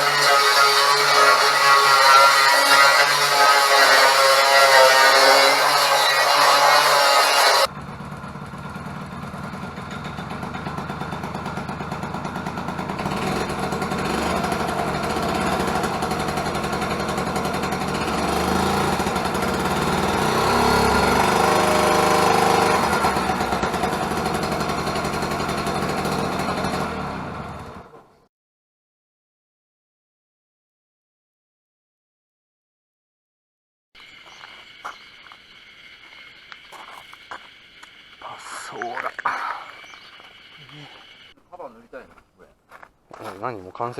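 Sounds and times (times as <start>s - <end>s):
scooter engine buzzing: 0.0s - 28.1s, 34.0s - 41.4s.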